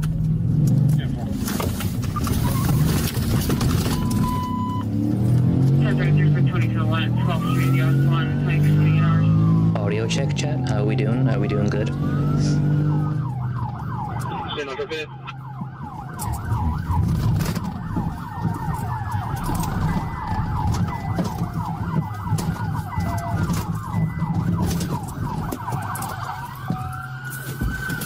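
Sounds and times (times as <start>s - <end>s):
police siren: 2.1s - 28.0s.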